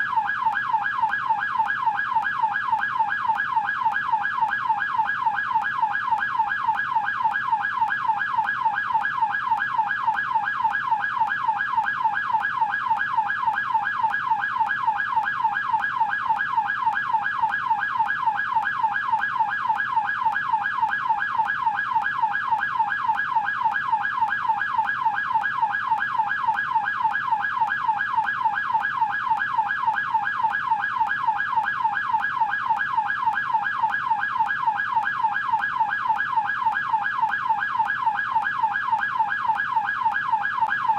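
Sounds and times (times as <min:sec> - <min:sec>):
police siren yelping: 0:00.0 - 0:40.9.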